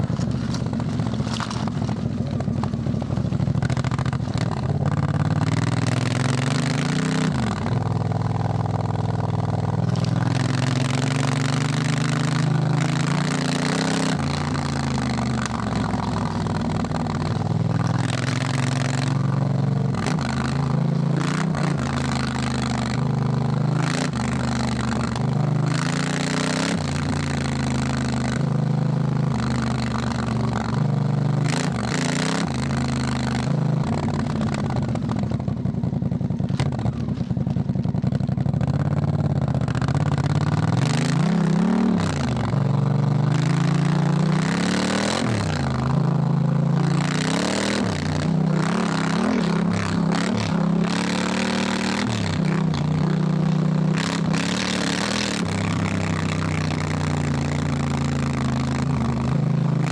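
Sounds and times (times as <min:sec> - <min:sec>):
motorcycle engine revving: 0:00.0 - 0:59.9
wind and tyre noise: 0:00.0 - 0:59.9.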